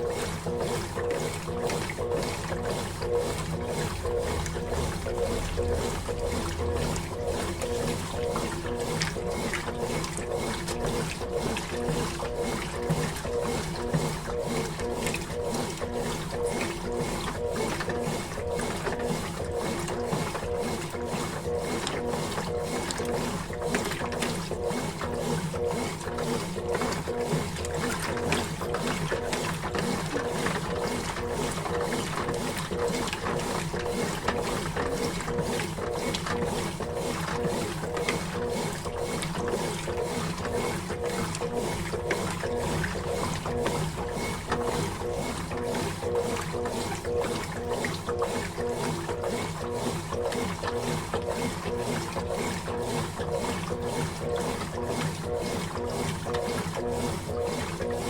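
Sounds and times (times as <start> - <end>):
washing machine churning laundry: 0.0 - 58.0.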